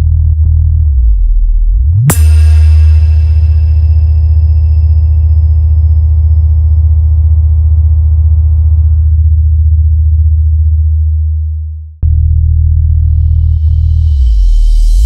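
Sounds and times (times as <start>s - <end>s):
deep synth bass tone: 0.0s - 15.0s.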